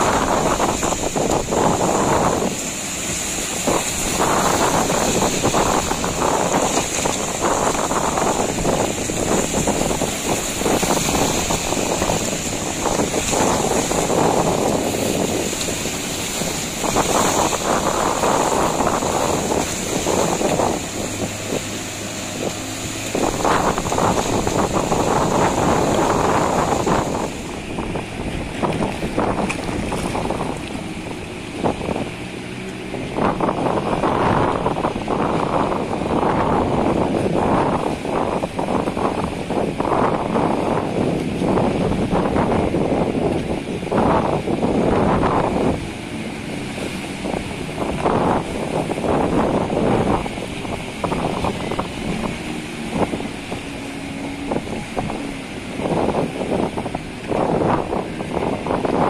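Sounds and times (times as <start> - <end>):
boat engine running: 0.0 - 59.0
wind buffeting microphone: 0.0 - 59.0.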